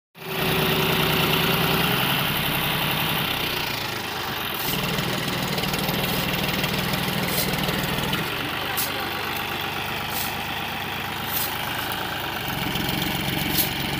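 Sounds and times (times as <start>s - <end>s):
tractor diesel engine straining: 0.2s - 13.9s.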